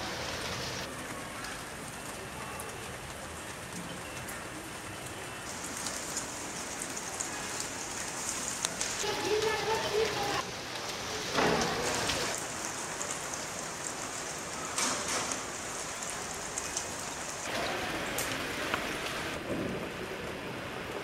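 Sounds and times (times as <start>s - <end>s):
rain on wet ground and puddles: 0.0s - 21.0s.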